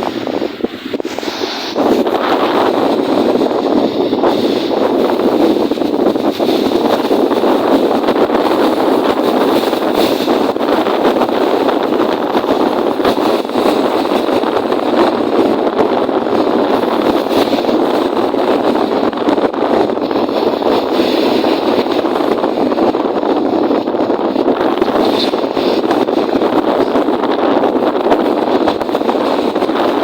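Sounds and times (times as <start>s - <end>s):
choppy lake waves: 0.0s - 30.0s
strong wind: 0.0s - 30.0s.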